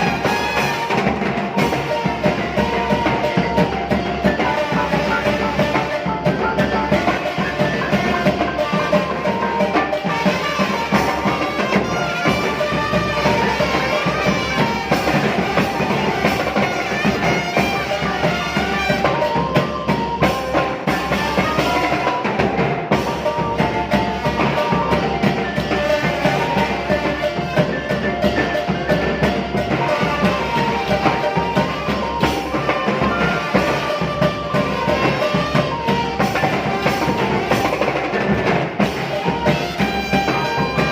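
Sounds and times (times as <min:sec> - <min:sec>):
brass band playing: 0:00.0 - 0:40.9
steady drum beat: 0:00.0 - 0:40.9.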